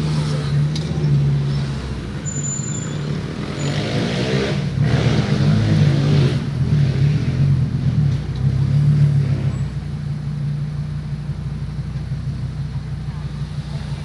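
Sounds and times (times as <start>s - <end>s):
car engine low drone: 0.0s - 14.0s
traffic noise: 0.0s - 14.0s.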